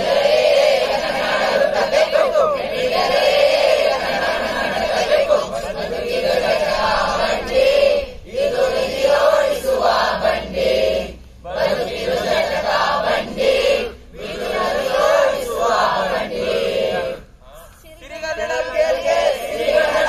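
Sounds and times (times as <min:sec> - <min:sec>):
group singing in unison: 0:00.0 - 0:17.3, 0:18.4 - 0:20.0.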